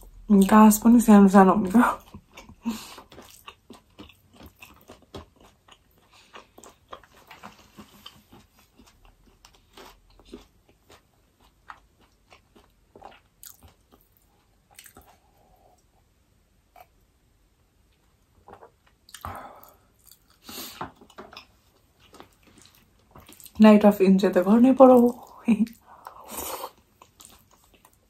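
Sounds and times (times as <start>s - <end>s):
mouth chewing food: 2.0s - 15.9s, 17.9s - 23.6s, 24.9s - 28.0s.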